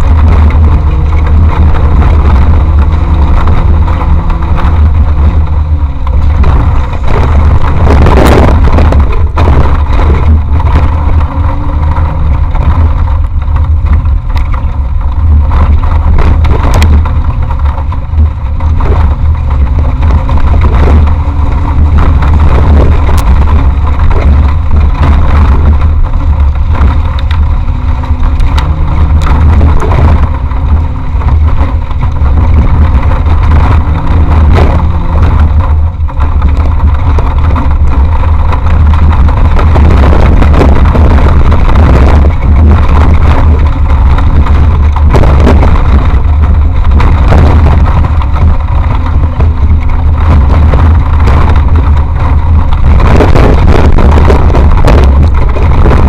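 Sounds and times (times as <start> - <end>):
knocks and rattles: 0.0 - 56.0
race vehicle engine revving: 0.0 - 56.0.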